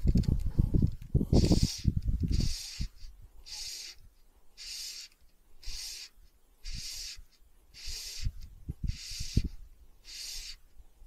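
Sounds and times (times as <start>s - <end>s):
fly line hissing through guides: 1.3s - 10.7s.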